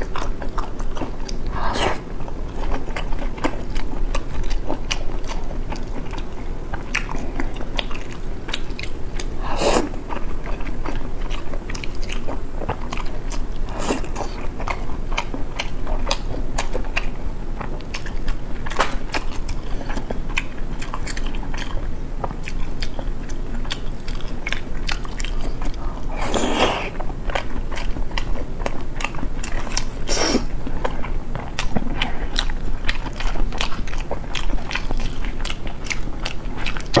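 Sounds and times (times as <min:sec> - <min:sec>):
wet chewing and mouth smacking: 0:00.0 - 0:37.0.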